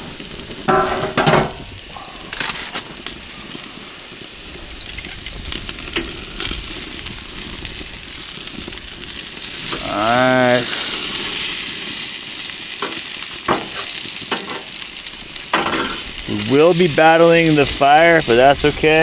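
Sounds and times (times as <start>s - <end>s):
fat crackling in fire: 0.0s - 19.0s
steak sizzling on grill: 0.0s - 19.0s.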